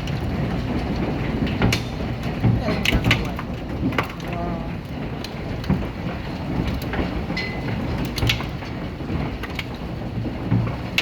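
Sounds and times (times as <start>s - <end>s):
hail and rain falling: 0.0s - 11.0s
hailstones striking hard surfaces: 0.0s - 11.0s.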